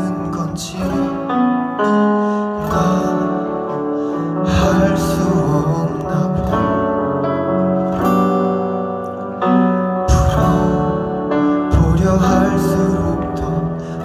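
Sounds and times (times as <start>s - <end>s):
acoustic guitar: 0.0s - 14.0s
live band playing a pop ballad: 0.0s - 14.0s.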